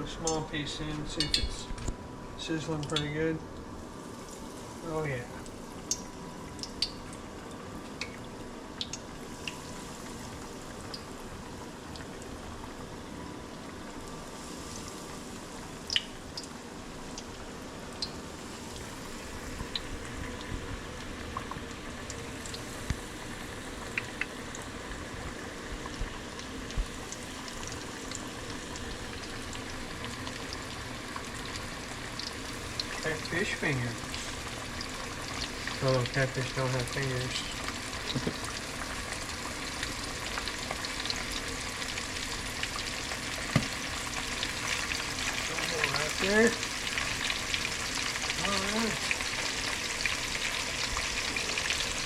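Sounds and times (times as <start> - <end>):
grease sizzling while deep-frying: 0.0 - 52.0.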